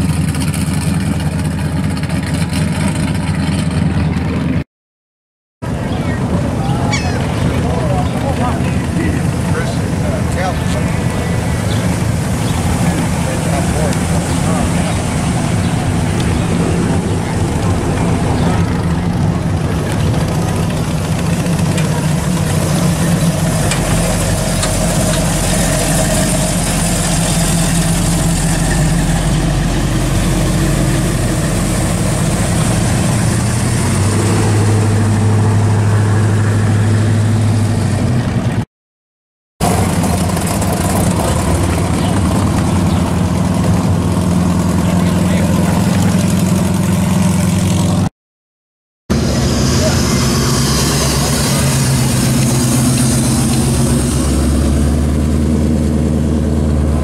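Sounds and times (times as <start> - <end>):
car engines idling: 0.0 - 4.6, 5.6 - 38.6, 39.6 - 48.1, 49.1 - 57.0.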